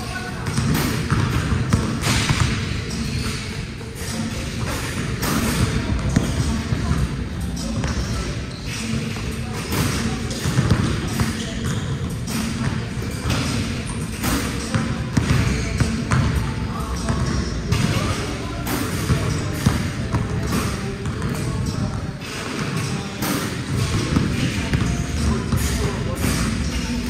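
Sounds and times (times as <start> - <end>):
basketballs bouncing on court floor: 0.1 - 27.0.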